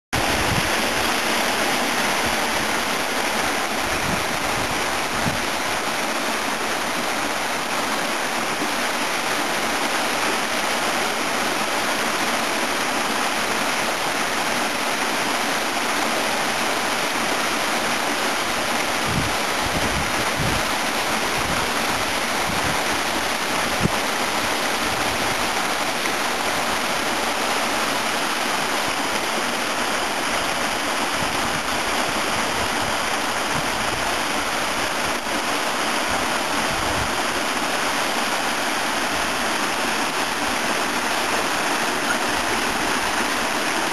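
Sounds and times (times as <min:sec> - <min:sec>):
waterfall rushing: 0:00.2 - 0:43.9.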